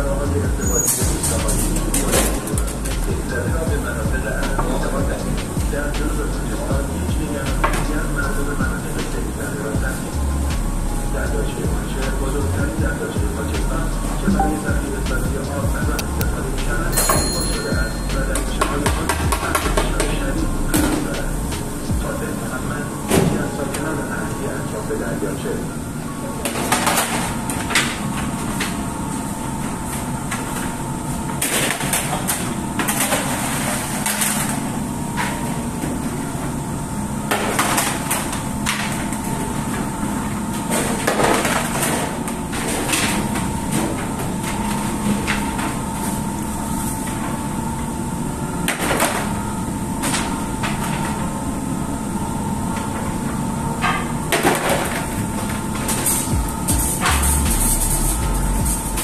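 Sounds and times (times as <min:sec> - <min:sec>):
bread oven humming: 0:00.0 - 0:19.3, 0:19.9 - 0:26.4, 0:27.2 - 0:59.0.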